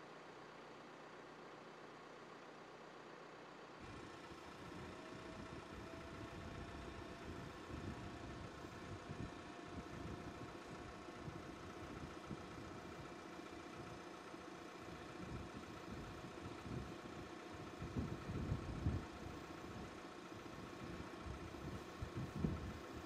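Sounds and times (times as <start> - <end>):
diesel car engine idling: 0.1 - 23.0.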